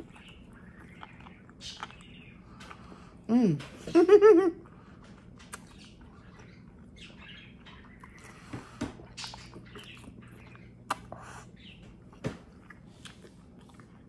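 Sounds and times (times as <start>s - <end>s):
chewing with lip smacks: 0.0s - 3.2s, 4.6s - 14.0s.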